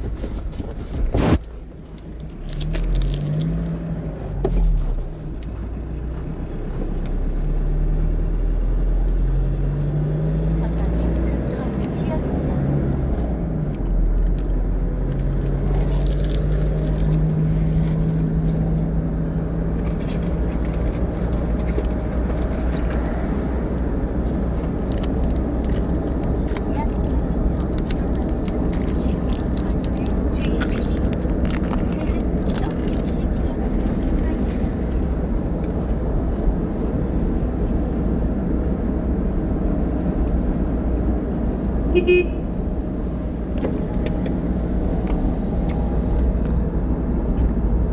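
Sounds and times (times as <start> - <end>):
vehicle rumble: 0.0 - 47.9.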